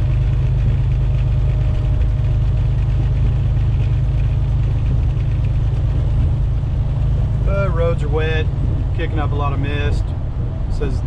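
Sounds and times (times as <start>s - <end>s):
road noise on wet highway: 0.0s - 11.0s
truck diesel engine drone: 0.0s - 11.0s.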